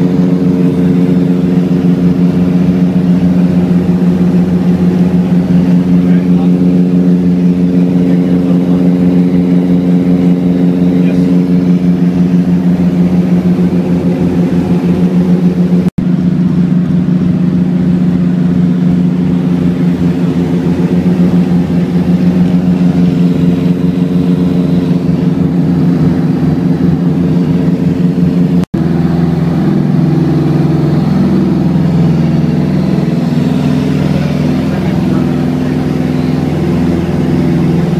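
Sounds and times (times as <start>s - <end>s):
twin piston engines from cabin: 0.0s - 37.9s.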